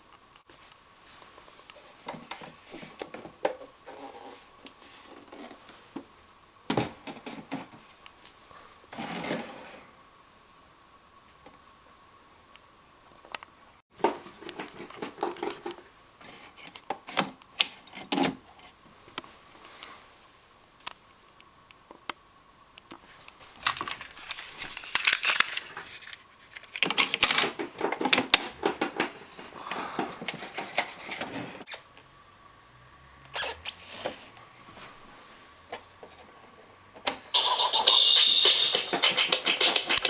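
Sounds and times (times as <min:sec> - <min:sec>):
faint electronic whine: 0:00.0 - 0:40.0.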